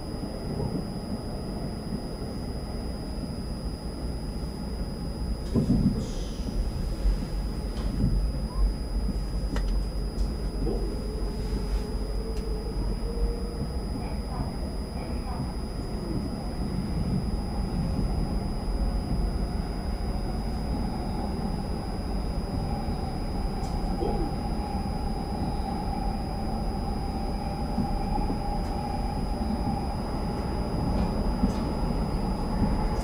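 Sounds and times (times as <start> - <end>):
electric train running in tunnel: 0.0 - 33.0
train whine: 0.0 - 33.0.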